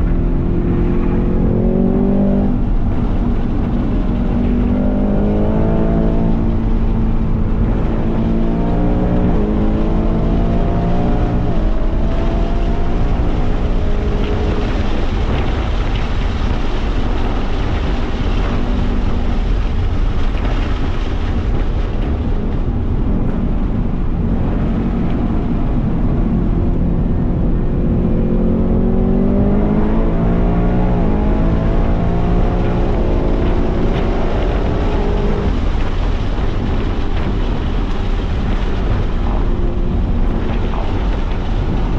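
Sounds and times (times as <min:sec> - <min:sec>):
car engine at full throttle: 0:00.0 - 0:41.9
wind and road noise: 0:00.0 - 0:41.9.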